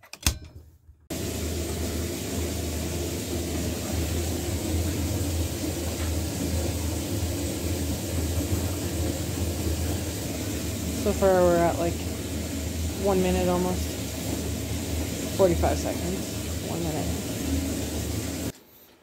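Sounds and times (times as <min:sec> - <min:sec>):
water running into plastic tank: 0:01.1 - 0:18.5.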